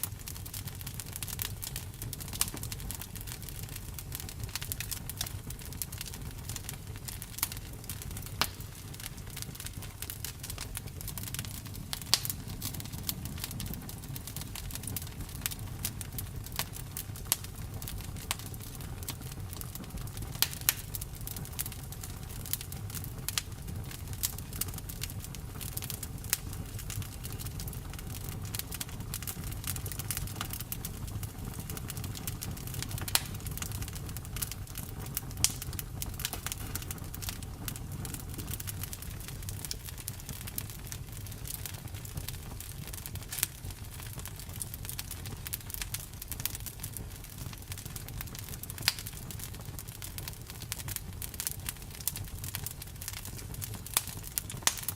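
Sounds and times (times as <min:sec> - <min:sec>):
campfire crackles and pops: 0:00.0 - 0:54.9
low rumble of flames: 0:00.0 - 0:54.9.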